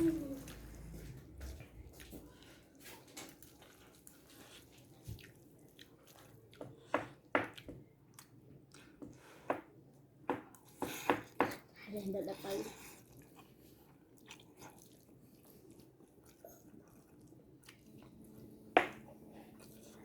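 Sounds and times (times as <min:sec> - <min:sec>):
person chewing noodles: 0:00.0 - 0:09.5, 0:12.6 - 0:20.0.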